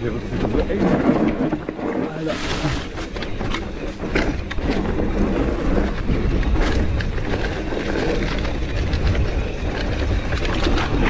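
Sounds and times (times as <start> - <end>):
bike clicks and rattles: 0.0 - 11.0
tyres rumbling on dirt: 0.0 - 11.0
wind over microphone: 0.0 - 11.0.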